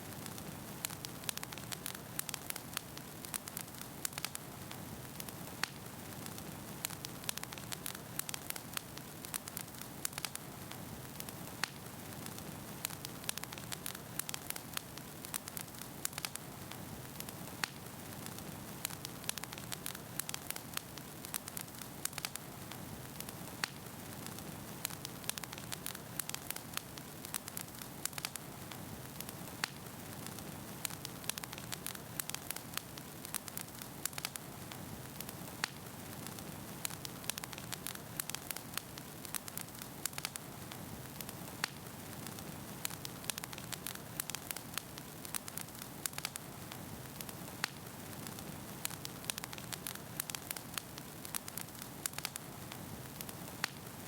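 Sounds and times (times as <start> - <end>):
fire flames hissing: 0.0 - 54.0
logs crackling and popping: 0.0 - 54.0.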